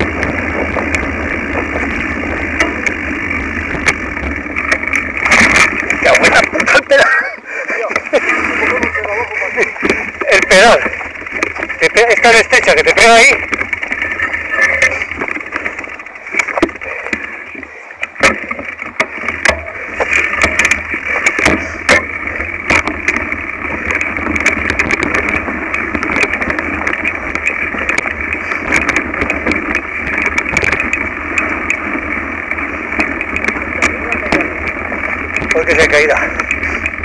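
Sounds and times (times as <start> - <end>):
bike rattling and knocking: 0.0 - 37.0
bike rolling on dirt trail: 0.0 - 37.0.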